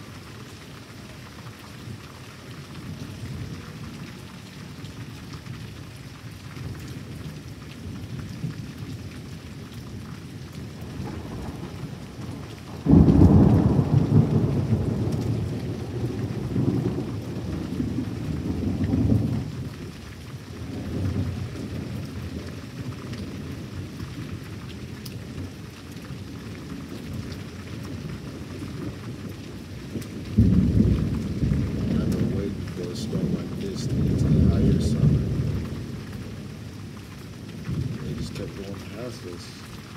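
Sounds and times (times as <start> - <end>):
steady rain: 0.0 - 39.9
thunder clapping and rumbling: 6.6 - 39.9.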